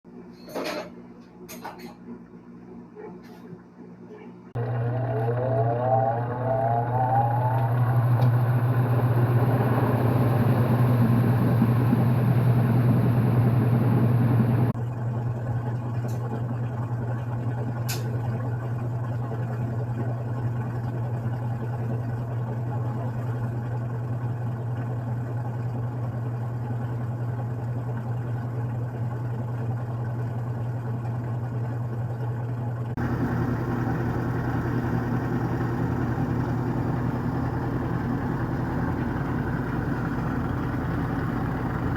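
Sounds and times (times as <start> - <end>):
washing machine spinning: 3.6 - 41.9.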